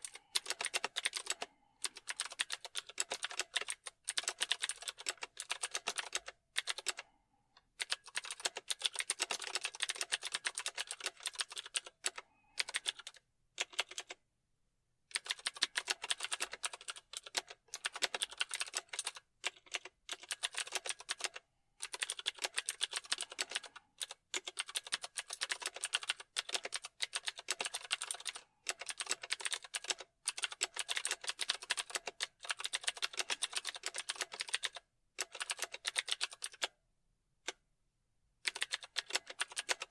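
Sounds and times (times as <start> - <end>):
typing on keyboard: 0.0 - 7.1, 7.7 - 14.2, 15.1 - 36.8, 38.4 - 39.9.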